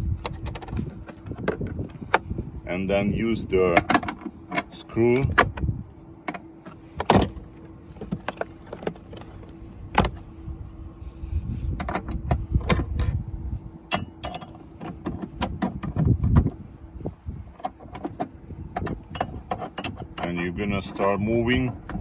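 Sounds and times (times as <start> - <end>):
low rumbling handling noise: 0.0 - 22.0.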